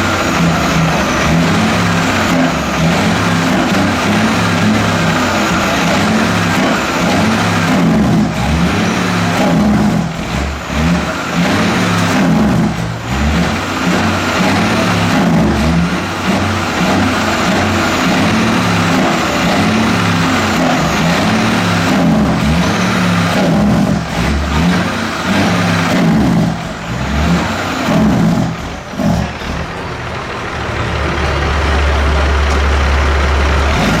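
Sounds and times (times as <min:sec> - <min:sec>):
truck diesel engine running loud: 0:00.0 - 0:34.0.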